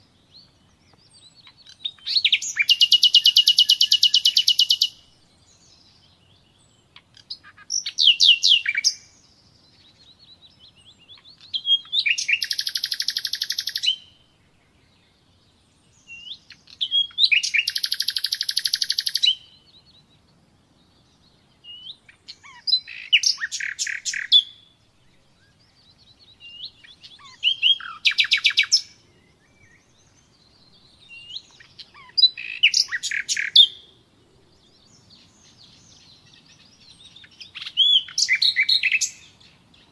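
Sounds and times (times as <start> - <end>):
nightingale singing trills: 0.0 - 39.9.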